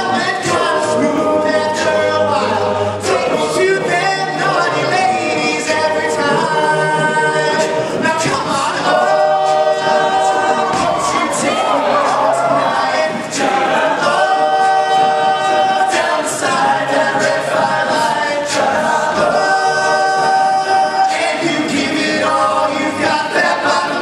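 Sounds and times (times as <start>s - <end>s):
male a cappella group singing: 0.0s - 24.0s.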